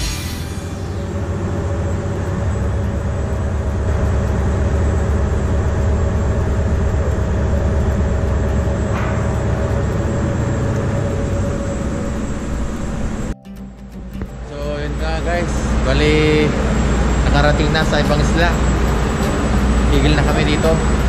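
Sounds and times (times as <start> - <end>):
ferry engines droning: 0.0 - 21.0.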